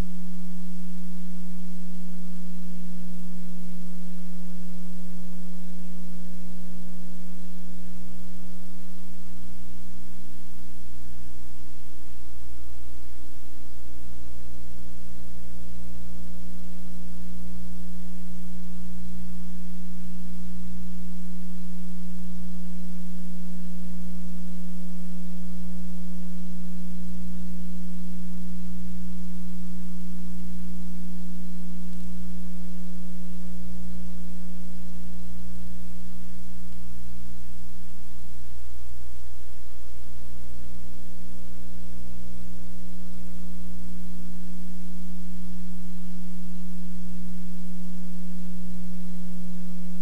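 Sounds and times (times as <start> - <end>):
steady electrical hum: 0.0 - 50.0.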